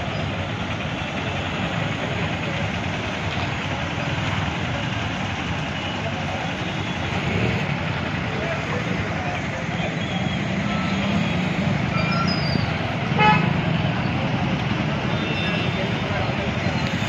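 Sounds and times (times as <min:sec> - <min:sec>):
traffic engines idling and crawling: 0:00.0 - 0:17.0.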